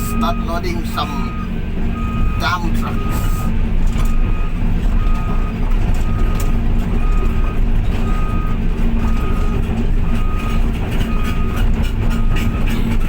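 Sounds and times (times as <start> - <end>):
heavy diesel engine running: 0.0 - 13.0
reversing alarm beeping: 0.0 - 13.0.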